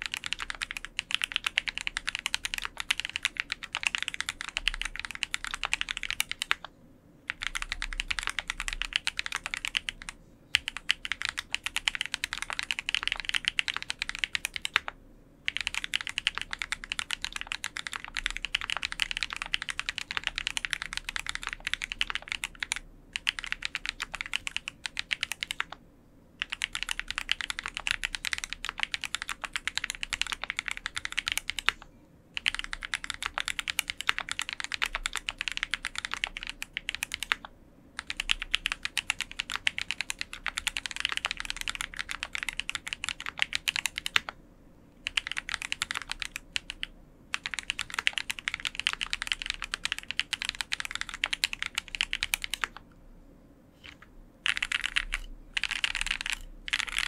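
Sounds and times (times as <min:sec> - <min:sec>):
fast typing on mechanical keyboard: 0:00.0 - 0:06.7, 0:07.3 - 0:25.8, 0:26.4 - 0:31.8, 0:32.4 - 0:44.4, 0:45.0 - 0:52.8, 0:53.8 - 0:57.0.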